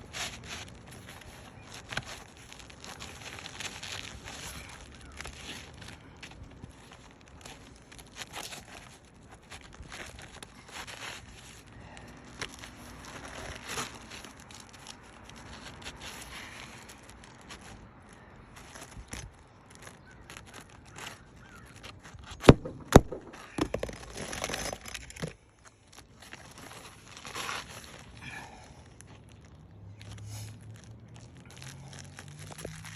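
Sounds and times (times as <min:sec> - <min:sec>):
scraping: 0:00.0 - 0:32.9
shingles crackling and tearing: 0:00.0 - 0:32.9.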